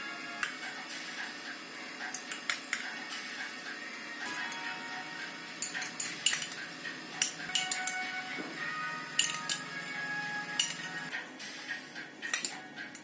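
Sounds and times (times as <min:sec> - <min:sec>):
background music sustained notes: 0:00.0 - 0:13.0.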